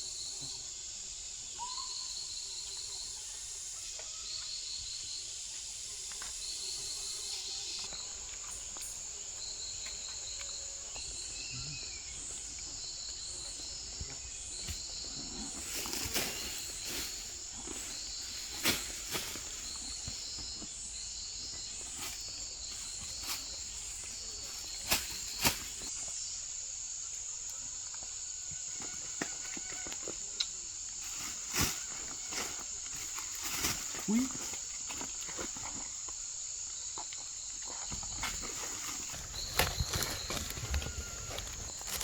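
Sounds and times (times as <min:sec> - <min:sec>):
insect chirp trains: 0:00.0 - 0:42.0
insects droning: 0:00.0 - 0:42.0.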